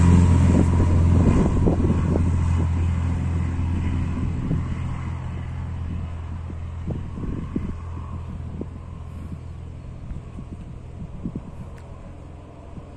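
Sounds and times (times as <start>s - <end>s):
propeller plane engine drone: 0.0s - 12.9s.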